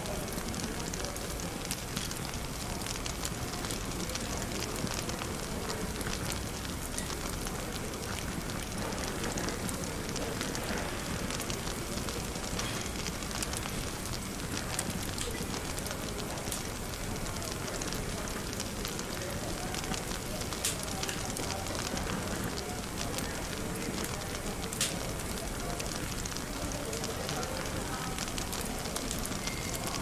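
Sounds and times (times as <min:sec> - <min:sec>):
murmur of cafe chatter: 0:00.0 - 0:30.0
wood fire crackling and popping: 0:00.0 - 0:30.0.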